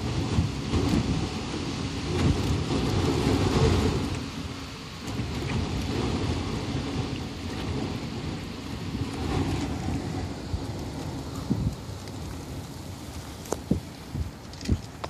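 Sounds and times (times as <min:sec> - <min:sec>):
storm winds gusting: 0:00.0 - 0:15.0
wind buffeting microphone: 0:00.0 - 0:15.0.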